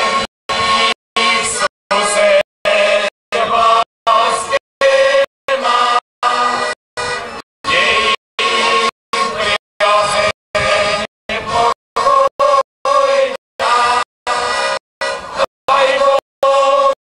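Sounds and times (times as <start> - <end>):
group singing in chorus: 0.0 - 6.8, 7.6 - 17.0.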